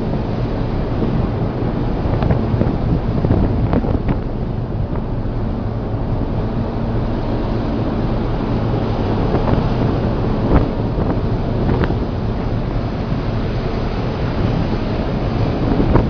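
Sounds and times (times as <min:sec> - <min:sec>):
wave crashing: 0:00.0 - 0:16.0
waves rushing and splashing: 0:00.0 - 0:16.0
wind buffeting microphone: 0:00.0 - 0:16.0.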